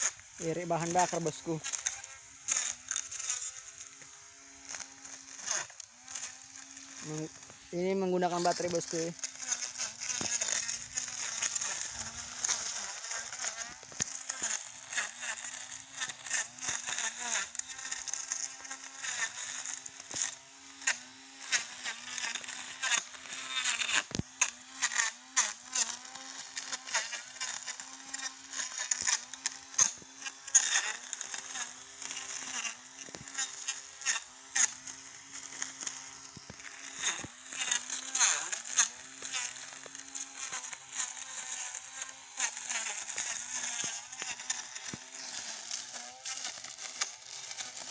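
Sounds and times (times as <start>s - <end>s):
electric brush cutter motor whining: 0.0s - 47.9s
sharp ticks of cut grass: 0.0s - 47.9s.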